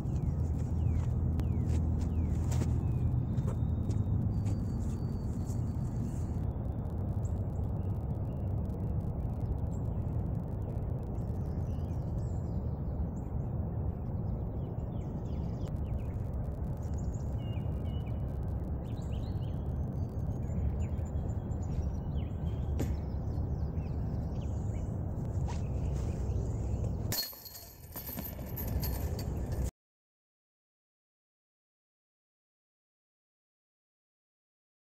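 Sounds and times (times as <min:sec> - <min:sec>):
birds chirping: 0:00.0 - 0:08.6, 0:09.6 - 0:29.7
low outdoor rumble: 0:00.0 - 0:29.7.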